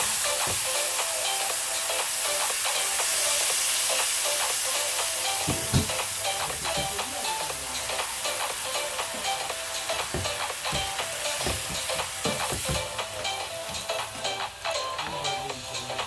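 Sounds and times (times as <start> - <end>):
lentils sizzling in hot oil: 0.0 - 14.7.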